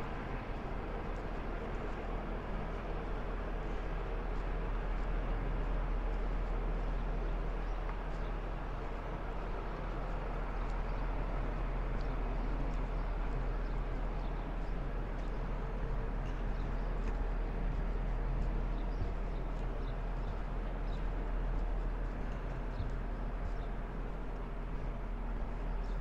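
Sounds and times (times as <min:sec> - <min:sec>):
city background rumble: 0:00.0 - 0:26.0.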